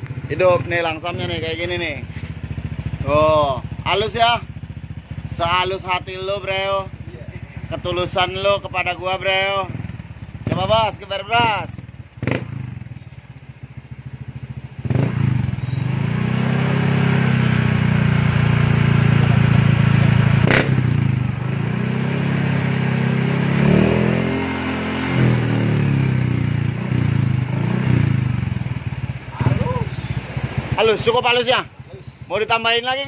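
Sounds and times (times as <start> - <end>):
scooter engine revving: 0.0 - 33.0.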